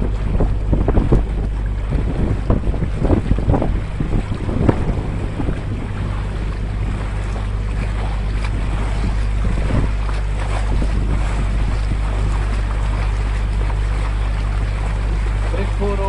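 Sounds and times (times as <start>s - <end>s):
boat motor droning: 0.0s - 16.0s
water churning along hull: 0.0s - 16.0s
wind buffeting microphone: 0.0s - 16.0s.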